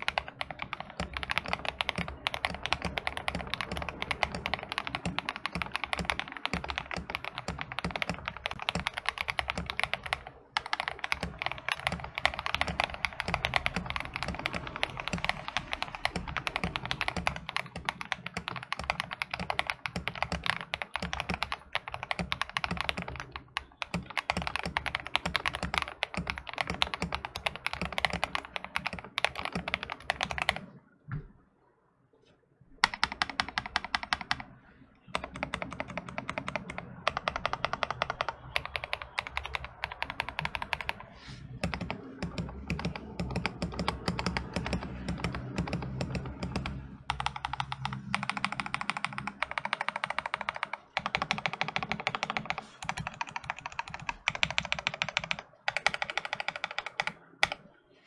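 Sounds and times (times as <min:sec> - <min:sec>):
mechanical keyboard typing: 0:00.0 - 0:30.8, 0:32.8 - 0:57.7.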